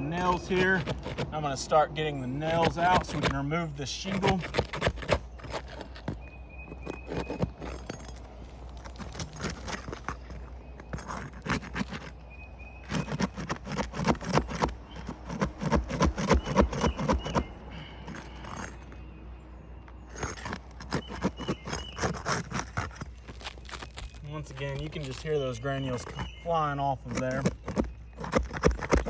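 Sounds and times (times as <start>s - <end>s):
roof shingle crackling and scraping: 0.0s - 29.0s.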